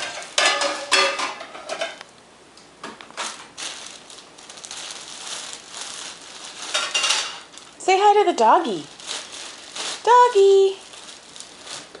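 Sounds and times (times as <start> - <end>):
plastic bag crinkling and rustling: 0.0 - 1.8, 3.1 - 12.0.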